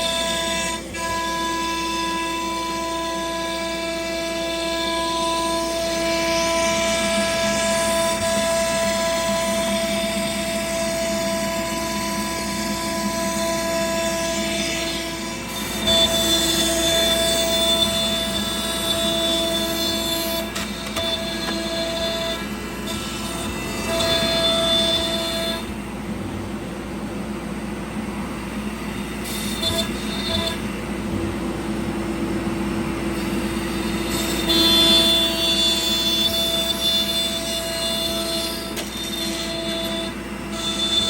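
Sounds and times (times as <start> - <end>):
cnc router whining: 0.0 - 41.0.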